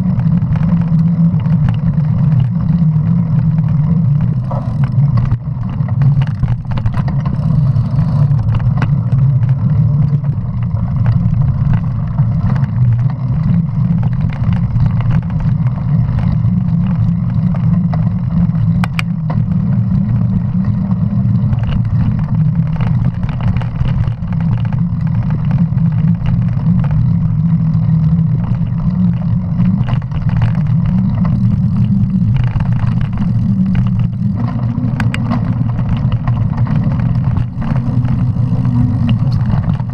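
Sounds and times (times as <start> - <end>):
bike clicks and rattles: 0.0 - 39.9
bike tyres rolling: 0.0 - 39.9
wind on microphone: 0.0 - 39.9.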